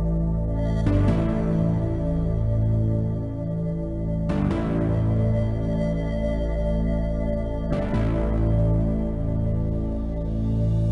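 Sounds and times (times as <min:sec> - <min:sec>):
slow ambient music: 0:00.0 - 0:10.9.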